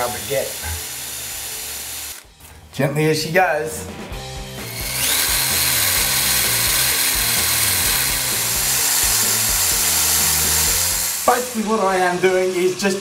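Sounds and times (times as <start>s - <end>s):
cordless drill drilling: 0.0s - 2.3s, 4.6s - 13.0s.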